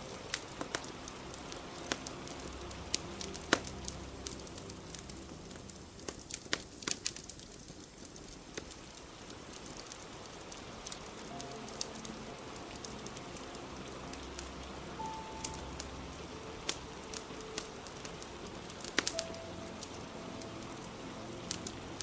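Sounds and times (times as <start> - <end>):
fire crackling and popping: 0.0 - 22.0
rain hiss: 0.0 - 22.0.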